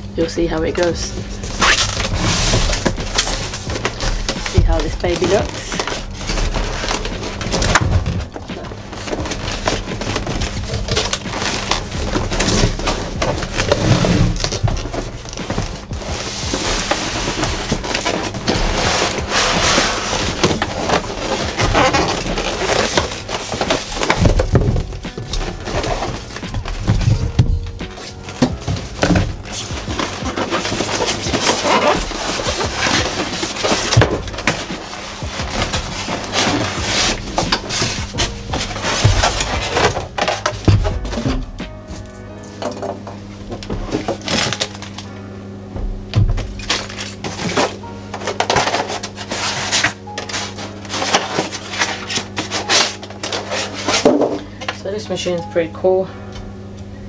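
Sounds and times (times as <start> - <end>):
background music: 0.0 - 57.0
cardboard packaging rustling: 0.8 - 45.2, 45.8 - 54.8.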